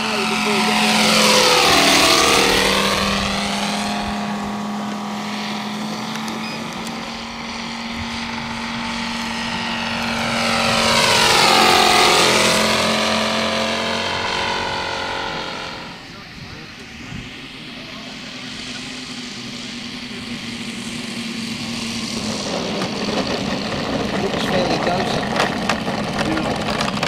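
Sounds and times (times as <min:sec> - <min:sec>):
model plane engine drone: 0:00.0 - 0:27.0.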